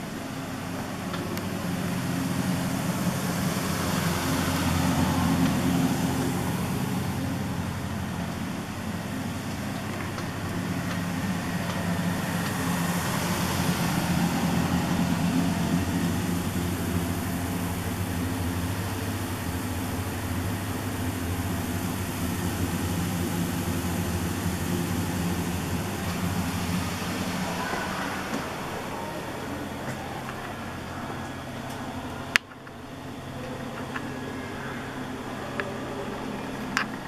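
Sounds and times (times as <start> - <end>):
machine and ventilation hum: 0.0 - 37.0.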